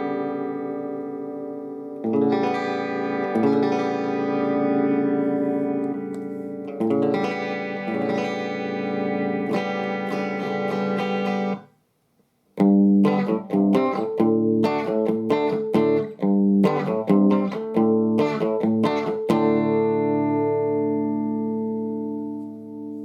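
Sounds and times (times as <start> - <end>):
electric guitar chords: 0.0 - 11.7, 12.6 - 23.0.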